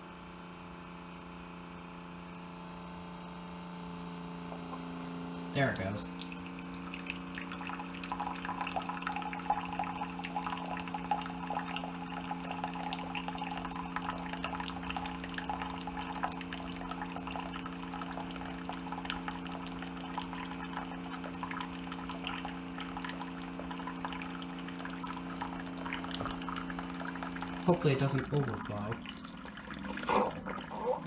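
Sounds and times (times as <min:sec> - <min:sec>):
coffee maker pump hum: 0:00.0 - 0:31.0
water streaming into a cup: 0:04.5 - 0:31.0.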